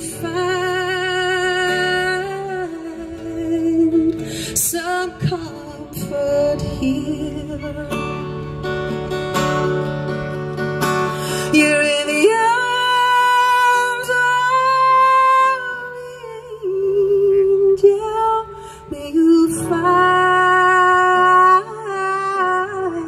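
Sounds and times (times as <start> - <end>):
woman singing wordless notes: 0.0 - 8.5, 11.4 - 23.0
strummed acoustic guitar: 0.0 - 23.0.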